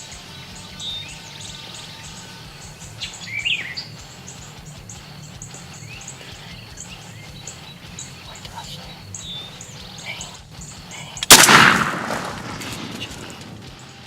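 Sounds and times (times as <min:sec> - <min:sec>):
rising and falling bird call: 0:00.0 - 0:14.0
songbirds chirping: 0:00.0 - 0:14.0.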